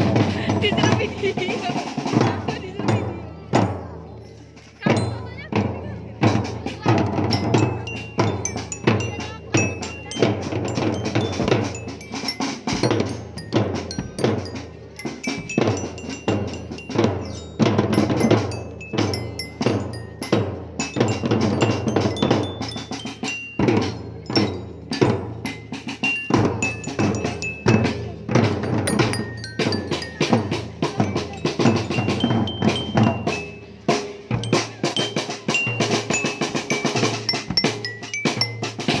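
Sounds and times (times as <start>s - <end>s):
marching snare and bass drums: 0.0s - 39.0s
bell lyre melody: 6.8s - 39.0s.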